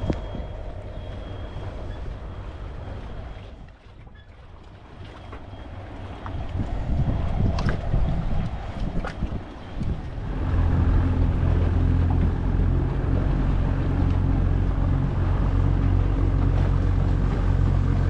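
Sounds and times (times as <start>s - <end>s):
wind on the microphone: 0.0s - 4.3s, 5.9s - 18.0s
boat motor humming: 0.0s - 18.0s.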